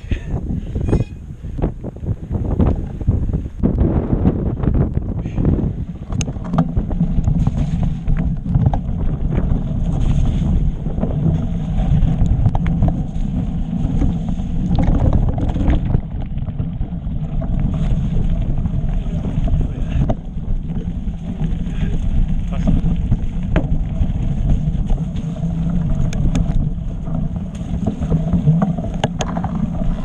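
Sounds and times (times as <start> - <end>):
bike knocking and rattling: 0.0 - 30.0
tyres rolling over trail: 0.0 - 30.0
wind buffeting microphone: 0.0 - 30.0.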